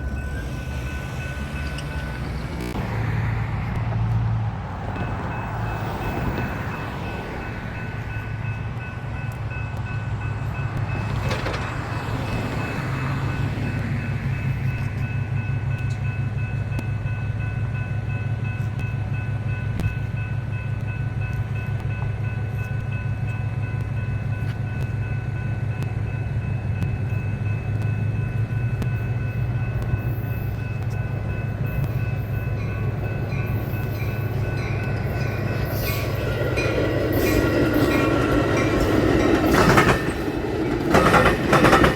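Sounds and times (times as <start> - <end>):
diesel locomotive rumbling: 0.0 - 41.9
rail and wheel noise: 0.0 - 41.9.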